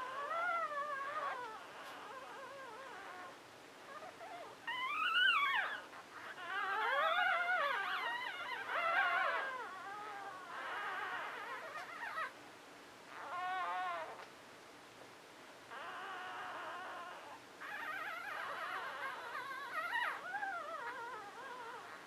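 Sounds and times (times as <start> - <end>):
puppies whimpering and squealing: 0.0 - 12.4, 13.1 - 14.3, 15.7 - 22.0.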